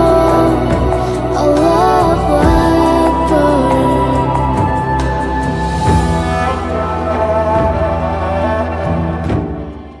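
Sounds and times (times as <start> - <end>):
background music sustained notes: 0.0 - 10.0
low drone: 0.0 - 10.0.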